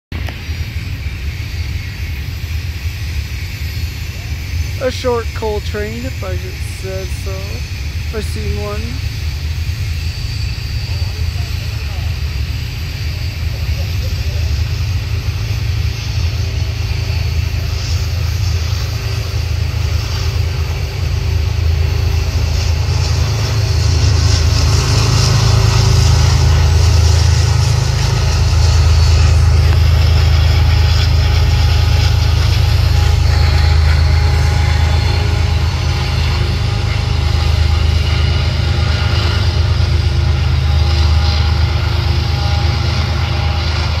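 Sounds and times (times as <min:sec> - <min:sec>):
diesel locomotive passing: 0:00.2 - 0:44.0.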